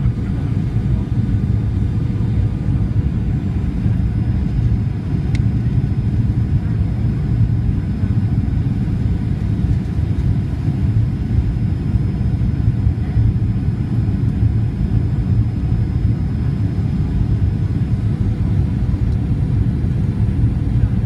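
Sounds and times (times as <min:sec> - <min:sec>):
jet engines and airflow rumble: 0:00.0 - 0:21.0.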